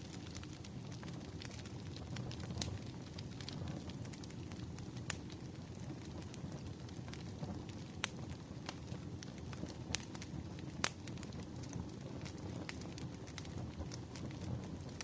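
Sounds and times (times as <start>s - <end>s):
firewood burning with crackles: 0.0s - 15.0s.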